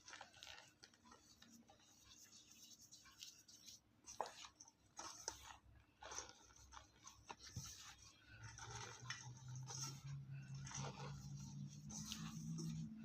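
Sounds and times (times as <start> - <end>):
chalk crunching and crumbling: 0.0 - 13.0
low steady hum: 0.0 - 13.0.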